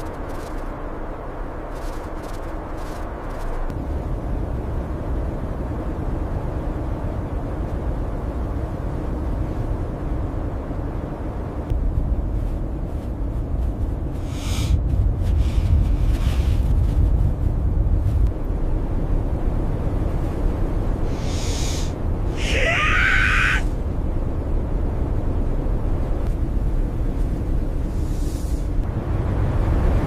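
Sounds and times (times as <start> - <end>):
blizzard wind blowing: 0.0 - 30.0.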